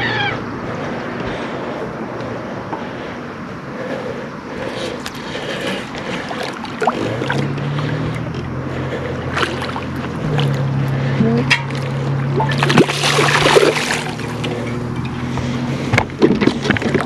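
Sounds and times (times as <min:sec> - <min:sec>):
small boat motor humming: 0:00.0 - 0:17.0
water noise: 0:00.0 - 0:17.0
wind: 0:00.0 - 0:17.0.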